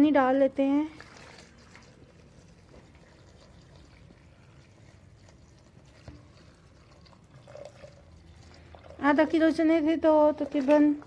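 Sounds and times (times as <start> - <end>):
water pouring into a pot: 0.9 - 11.0.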